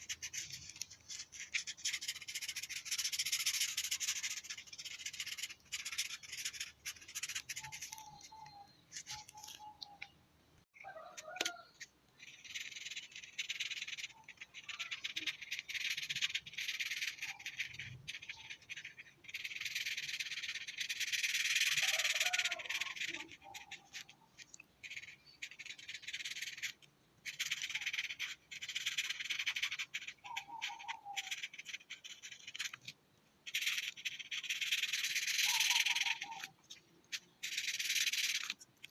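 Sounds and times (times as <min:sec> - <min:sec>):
colouring tool scratching on paper: 0:00.0 - 0:08.3, 0:12.2 - 0:32.9, 0:33.5 - 0:36.5.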